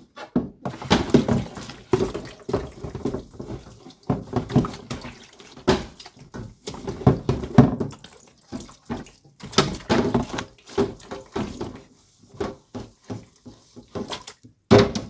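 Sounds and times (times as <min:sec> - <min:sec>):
water splashing in a basin: 0:00.7 - 0:15.0.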